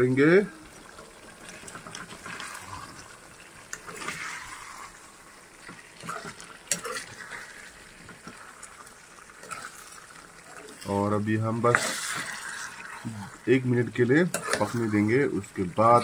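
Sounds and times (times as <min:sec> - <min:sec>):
ladle stirring thick curry: 0:00.6 - 0:10.9, 0:11.5 - 0:16.0.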